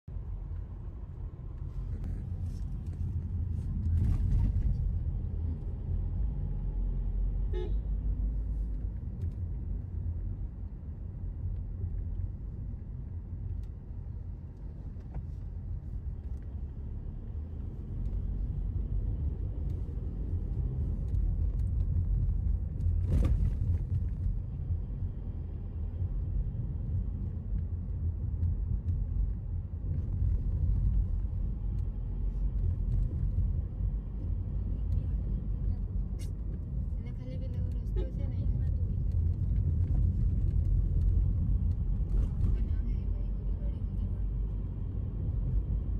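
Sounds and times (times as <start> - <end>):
car driving rumble from inside: 0.0 - 45.9.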